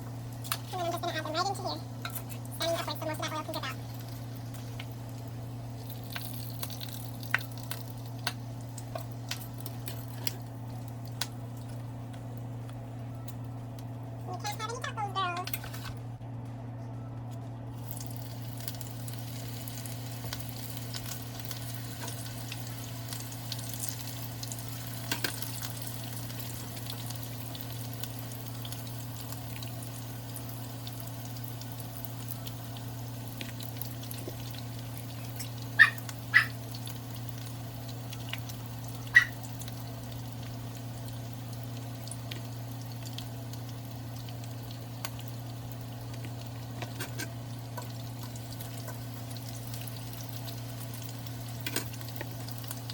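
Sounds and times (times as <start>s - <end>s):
food frying in hot oil: 0.0s - 14.7s, 17.8s - 52.9s.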